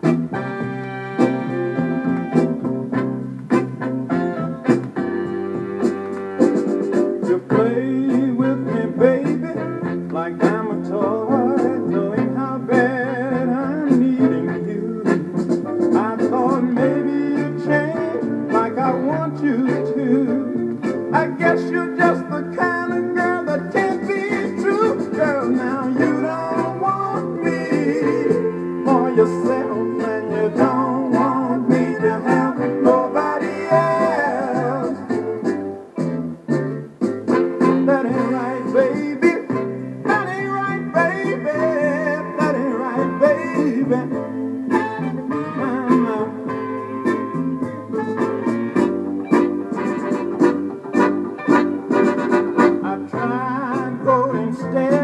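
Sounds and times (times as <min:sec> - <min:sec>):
soul record on a turntable: 0:00.0 - 0:55.0.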